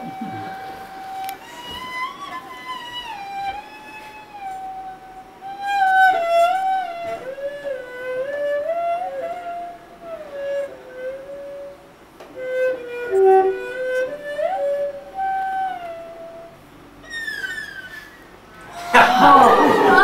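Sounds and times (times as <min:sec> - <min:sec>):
cello slow melody: 0:00.0 - 0:20.0.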